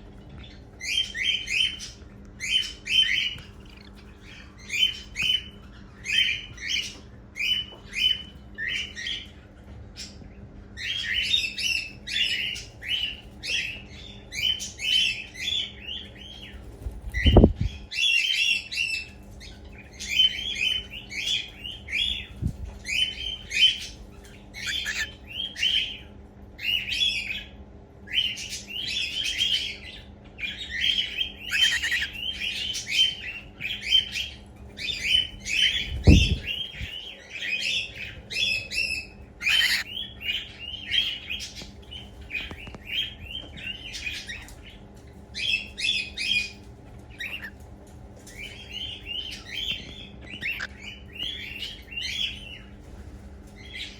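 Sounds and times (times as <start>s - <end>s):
cockatiel chicks calling: 0.4s - 10.2s, 10.8s - 27.5s, 28.1s - 53.9s.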